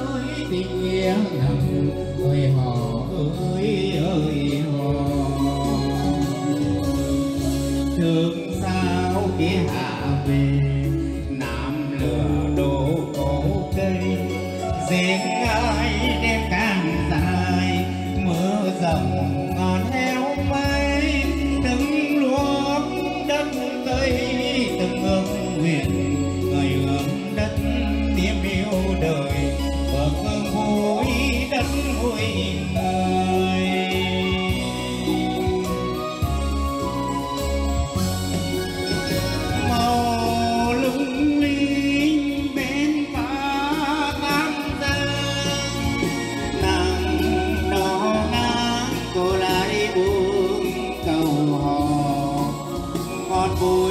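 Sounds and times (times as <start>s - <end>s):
backing music with bass line: 0.0s - 53.9s
man singing into a microphone: 0.0s - 53.9s.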